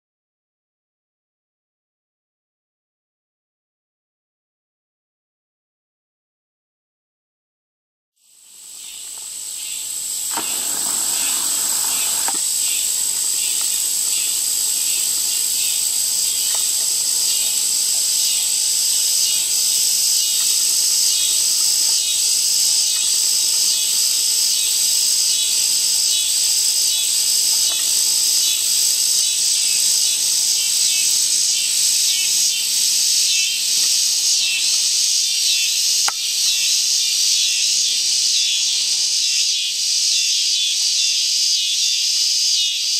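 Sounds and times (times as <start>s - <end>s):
insects trilling: 8.2s - 42.9s.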